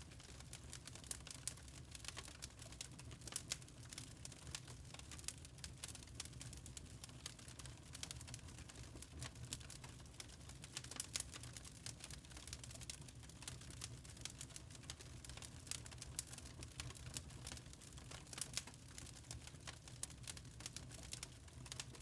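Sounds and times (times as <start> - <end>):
burning charcoal crackling: 0.0 - 22.0.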